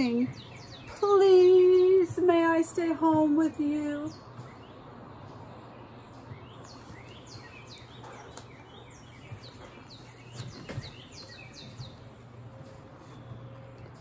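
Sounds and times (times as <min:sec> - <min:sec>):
low steady hum: 0:00.0 - 0:14.0
songbirds chirping: 0:00.0 - 0:14.0.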